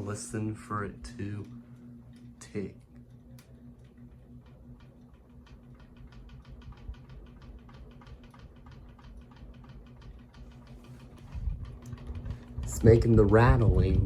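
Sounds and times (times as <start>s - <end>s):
ceiling fan motor hum: 0.0s - 14.0s
fan blades ticking rattle: 0.0s - 14.0s.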